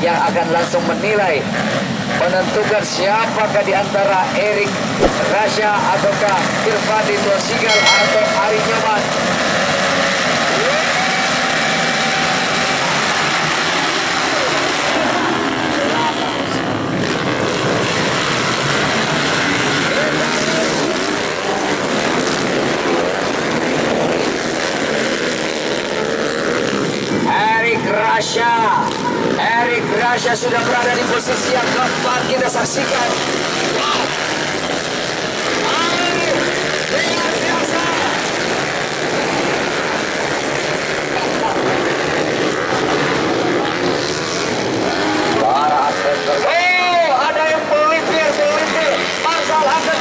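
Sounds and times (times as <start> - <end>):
dirt bike engines revving: 0.2 - 50.0.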